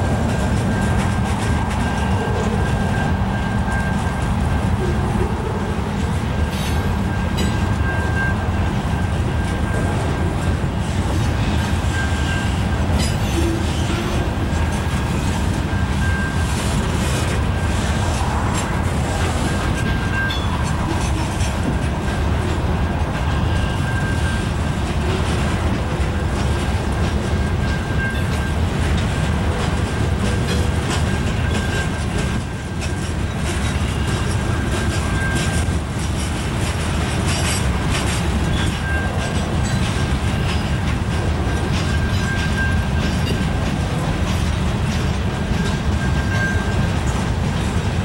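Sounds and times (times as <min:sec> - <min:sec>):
train wheels rumbling on rail: 0:00.0 - 0:48.0
wheels clickety-clack: 0:00.0 - 0:48.0.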